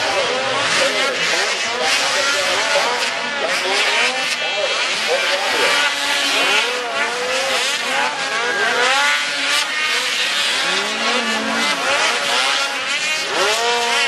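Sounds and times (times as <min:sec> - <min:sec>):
racing engines revving: 0:00.0 - 0:14.0.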